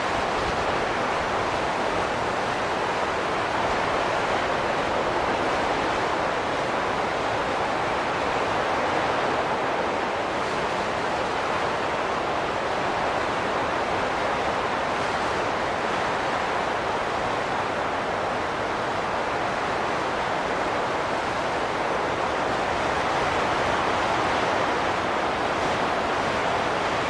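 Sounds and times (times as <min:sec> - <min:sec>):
wind blowing steadily: 0:00.0 - 0:27.0.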